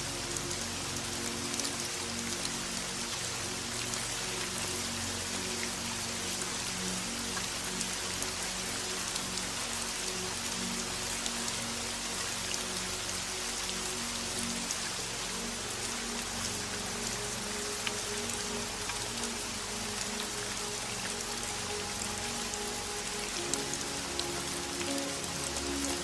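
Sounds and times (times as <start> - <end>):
soft background music: 0.0 - 26.0
steady rain: 0.0 - 26.0.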